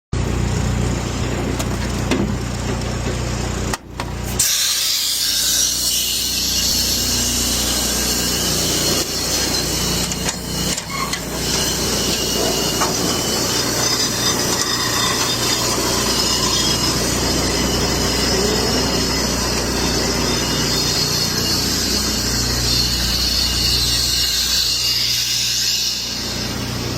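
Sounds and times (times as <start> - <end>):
pump machine drone: 0.2 - 26.9
loud hiss of gas flow: 4.0 - 26.9.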